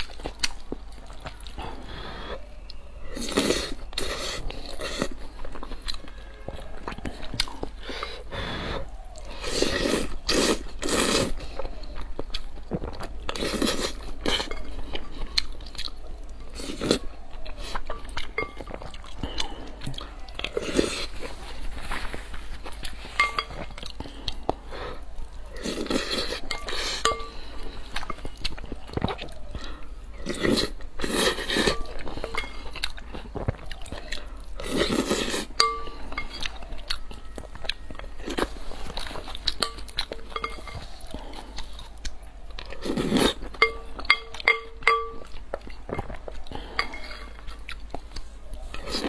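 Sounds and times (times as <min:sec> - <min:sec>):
person chewing: 0:00.0 - 0:49.0.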